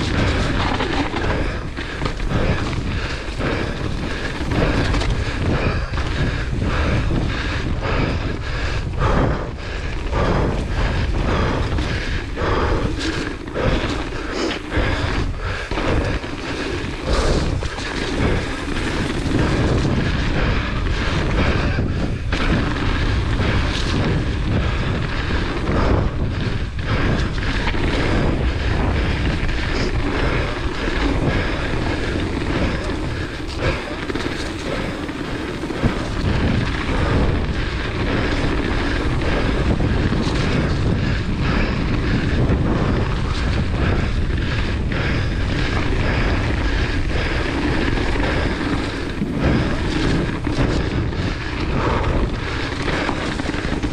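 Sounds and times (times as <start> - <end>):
tyres rolling over dirt: 0.0 - 7.6, 9.8 - 53.9
bike rattling and knocking: 0.0 - 53.9
wind rumbling on microphone: 0.0 - 53.9.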